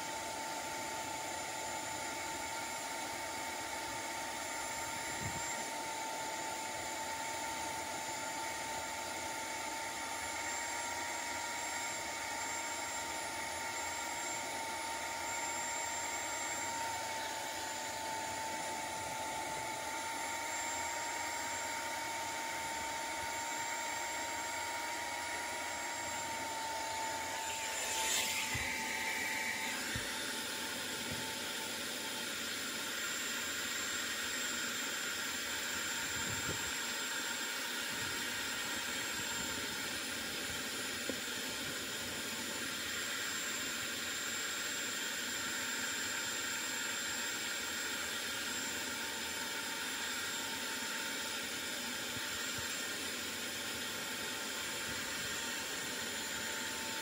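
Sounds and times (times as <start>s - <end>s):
carpet extractor motor whine: 0.0s - 57.0s.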